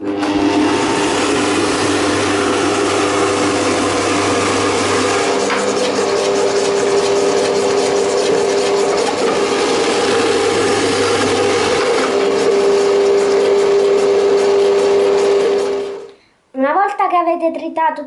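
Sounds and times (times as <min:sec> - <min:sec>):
stand mixer motor hum: 0:00.0 - 0:16.1
carrots being grated: 0:00.6 - 0:16.1.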